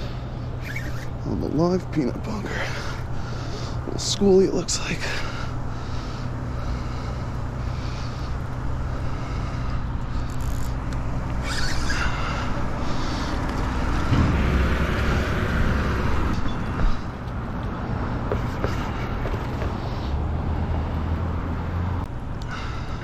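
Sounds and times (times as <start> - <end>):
road traffic hum: 0.0 - 23.0
vehicle passing: 0.0 - 23.0.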